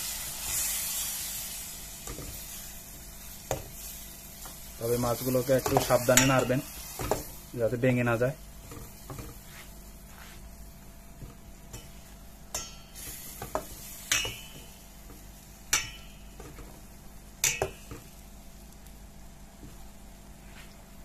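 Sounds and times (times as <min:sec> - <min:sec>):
faint sizzle of frying: 0:00.0 - 0:21.0.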